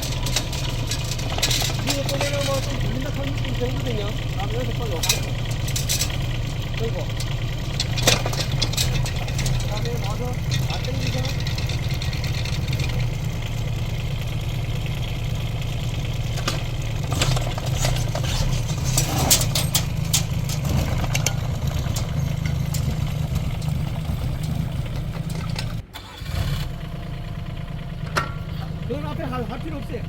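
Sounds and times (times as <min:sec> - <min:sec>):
sharp metallic clicks and knocks: 0:00.0 - 0:25.9, 0:27.9 - 0:29.8
diesel engine running: 0:00.0 - 0:30.0.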